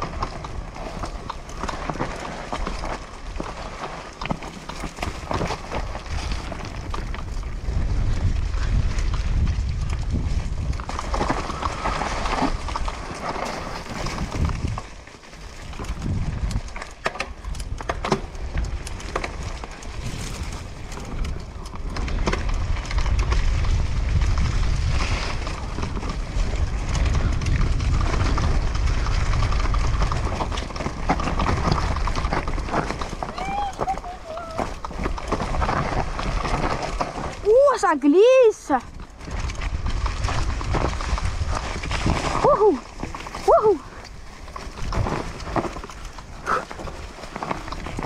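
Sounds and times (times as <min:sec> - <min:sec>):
wind rumble on microphone: 0:00.0 - 0:37.8, 0:38.4 - 0:48.0
bike rattling over bumps: 0:00.0 - 0:48.0
bike tyres rolling over dirt: 0:00.0 - 0:48.0.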